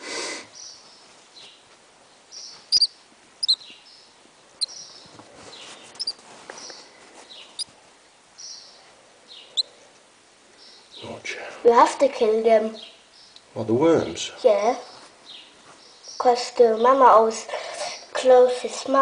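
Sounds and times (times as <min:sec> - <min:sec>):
nestling bird chirping: 0:00.5 - 0:11.2, 0:12.5 - 0:17.2.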